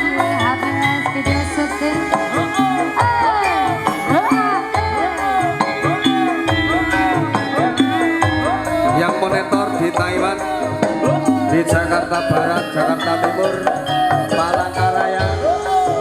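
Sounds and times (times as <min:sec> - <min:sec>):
pop song over pa speaker: 0:00.0 - 0:16.0.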